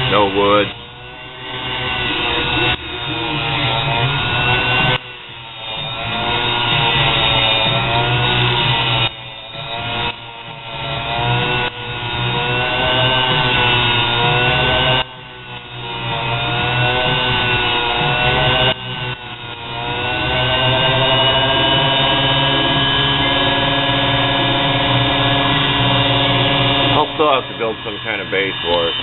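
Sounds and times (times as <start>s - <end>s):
grinding motor whine: 0.0s - 29.0s
steel rod grinding on wheel: 0.0s - 29.0s.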